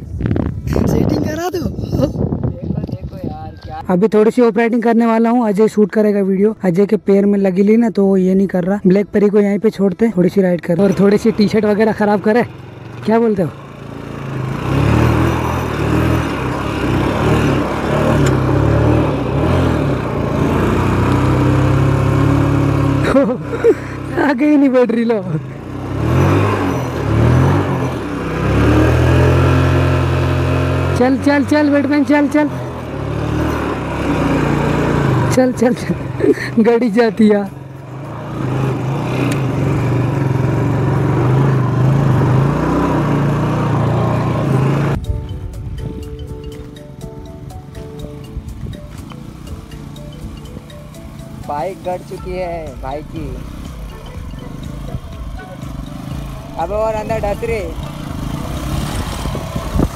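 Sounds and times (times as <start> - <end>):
motorcycle engine revving: 10.6 - 59.9.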